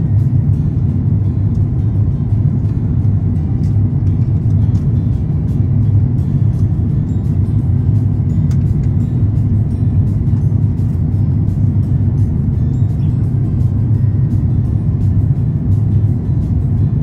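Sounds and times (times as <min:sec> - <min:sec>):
airliner cabin jet engine rumble: 0:00.0 - 0:17.0.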